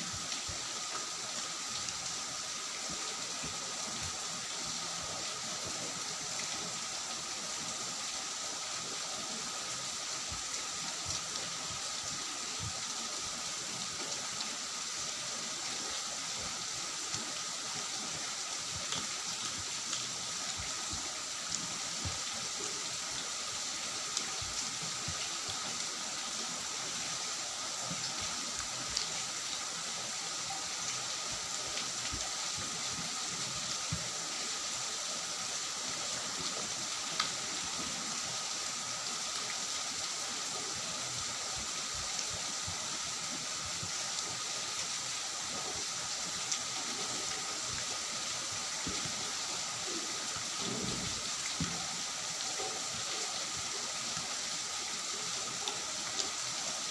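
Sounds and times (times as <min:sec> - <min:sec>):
steady hiss: 0:00.0 - 0:56.9.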